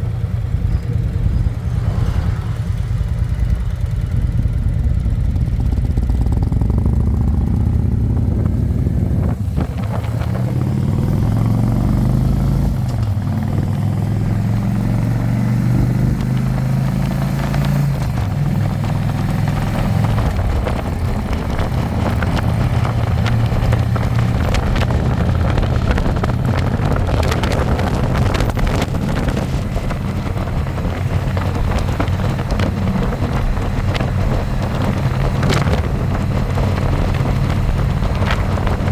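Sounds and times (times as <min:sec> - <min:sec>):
motorcycle engine accelerating: 0:00.0 - 0:38.9
wind rushing over microphone: 0:00.0 - 0:38.9.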